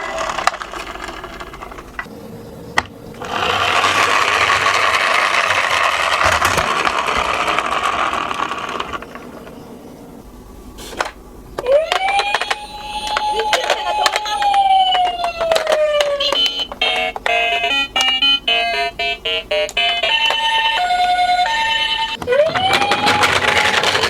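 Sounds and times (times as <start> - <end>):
toy car wheels rattling on track: 0.0 - 2.1, 3.2 - 9.6, 11.0 - 18.8, 19.8 - 24.0.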